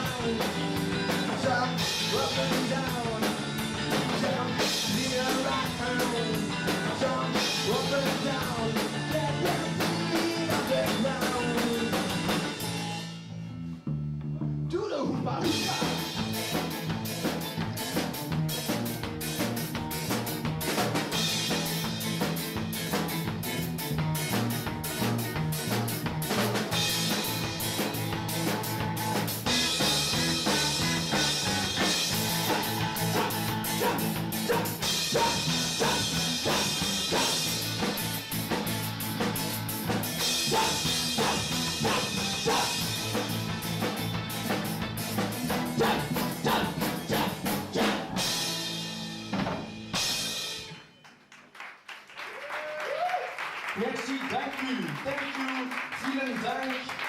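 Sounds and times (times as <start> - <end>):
drum kit beat: 0.0 - 13.2, 15.4 - 50.9
band playing instrumental: 0.0 - 13.4, 15.4 - 51.0
bass notes: 0.0 - 50.9.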